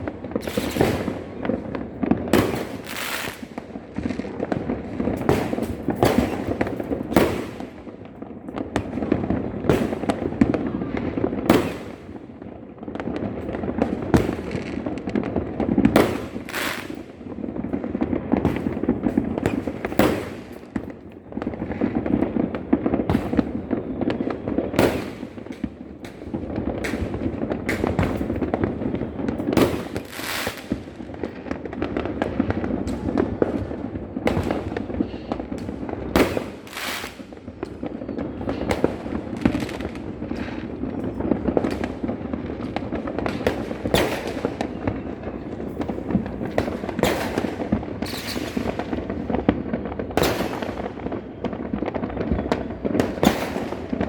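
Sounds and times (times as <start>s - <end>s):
crackle and rumble of distant fireworks: 0.0s - 54.0s
fireworks sharp bangs: 0.0s - 54.0s.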